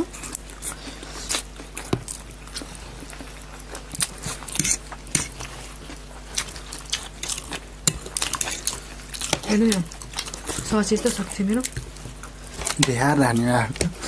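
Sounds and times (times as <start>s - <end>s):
people chewing and slurping noodles: 0.0s - 14.0s.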